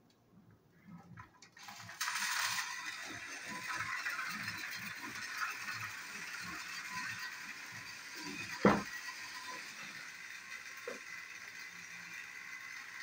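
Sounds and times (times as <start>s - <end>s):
small clicks of toy train: 1.0s - 13.0s
toy train gear whir: 1.1s - 13.0s.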